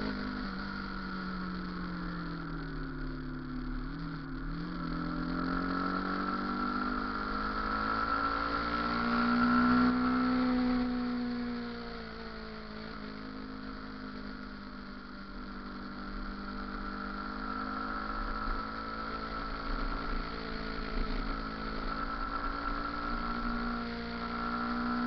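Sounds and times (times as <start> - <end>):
motorcycle engine at low speed: 0.0 - 25.0
steady whine: 0.0 - 25.0.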